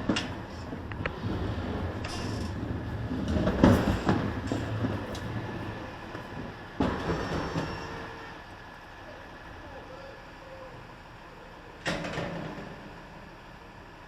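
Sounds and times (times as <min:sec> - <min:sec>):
rail vehicle rumbling: 0:00.0 - 0:14.0.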